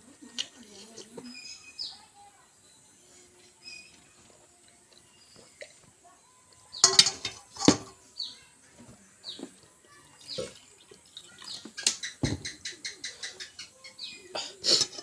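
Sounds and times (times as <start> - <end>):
small birds chirping: 0.6 - 15.0.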